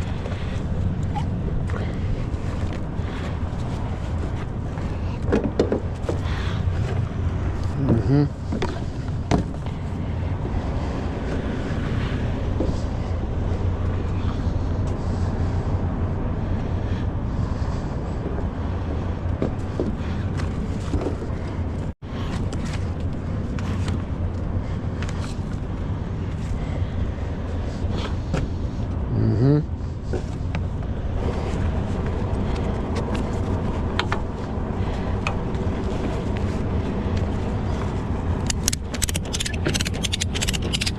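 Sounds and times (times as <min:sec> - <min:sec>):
outdoor background noise: 0:00.0 - 0:40.9.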